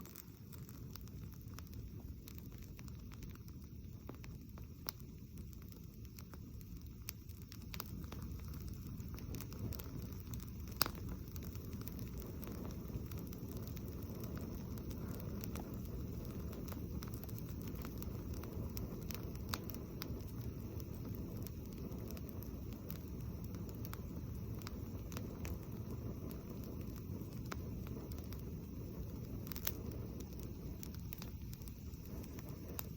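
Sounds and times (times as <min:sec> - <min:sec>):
campfire crackling and popping: 0:00.0 - 0:32.9
low fire rumble: 0:00.0 - 0:32.9.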